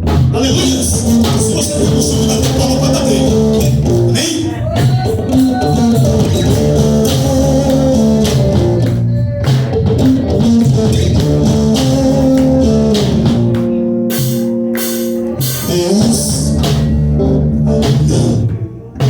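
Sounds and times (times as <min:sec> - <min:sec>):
band playing instrumental music: 0:00.0 - 0:19.0.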